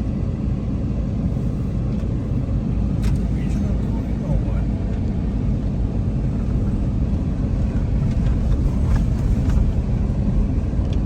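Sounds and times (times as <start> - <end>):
car interior engine and road noise: 0.0 - 11.0.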